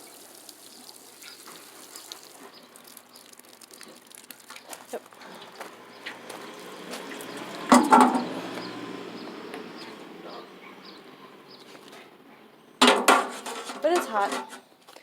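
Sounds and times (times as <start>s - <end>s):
water running into container: 0.0s - 14.7s.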